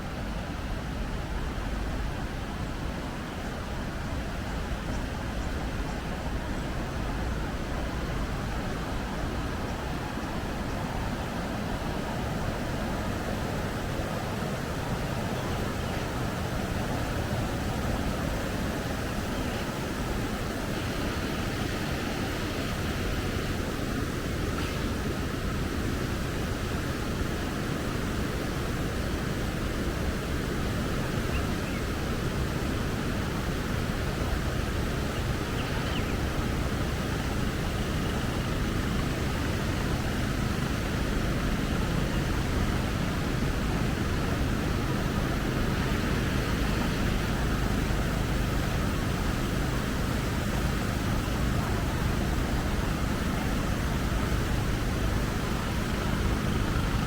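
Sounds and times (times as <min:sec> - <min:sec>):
river rushing: 0:08.0 - 0:57.0.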